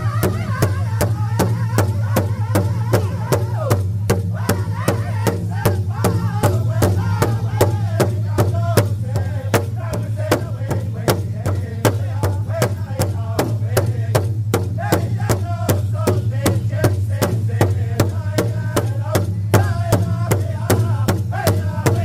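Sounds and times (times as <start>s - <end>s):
group singing: 0.0s - 22.0s
large drum beating: 0.0s - 22.0s.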